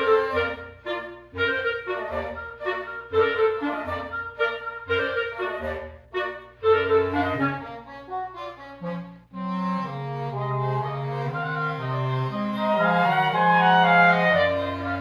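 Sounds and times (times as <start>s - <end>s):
wind quintet playing chords: 0.0s - 15.0s.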